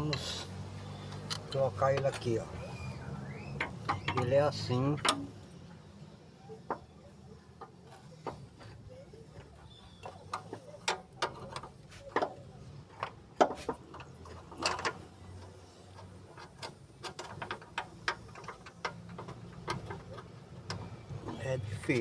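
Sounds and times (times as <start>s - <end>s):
metallic clicks of car parts: 0.0s - 22.0s.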